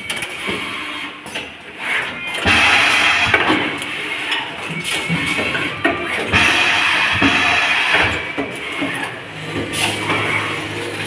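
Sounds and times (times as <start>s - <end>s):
machine clacking: 1.2s - 11.0s.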